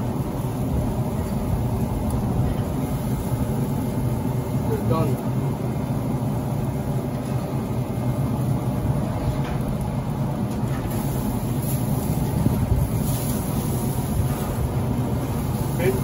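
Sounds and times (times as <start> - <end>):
grill fan and fire humming: 0.0 - 16.0.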